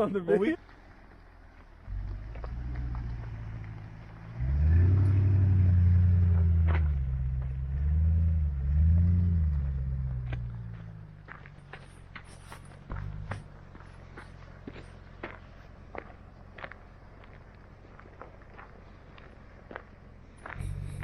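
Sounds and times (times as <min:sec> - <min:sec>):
off-road engine pulling: 0:00.0 - 0:21.0.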